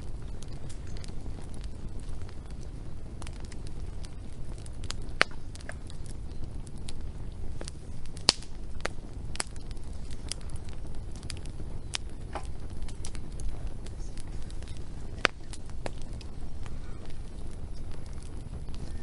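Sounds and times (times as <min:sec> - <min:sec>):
low rumble of burning: 0:00.0 - 0:19.0
wood fire pops and snaps: 0:00.0 - 0:19.0.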